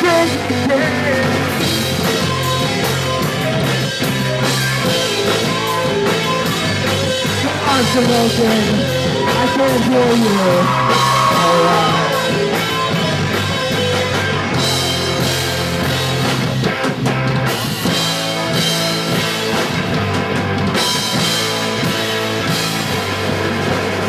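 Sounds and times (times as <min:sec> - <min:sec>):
bass guitar: 0:00.0 - 0:24.0
distorted guitars: 0:00.0 - 0:24.0
drum kit: 0:00.0 - 0:24.0.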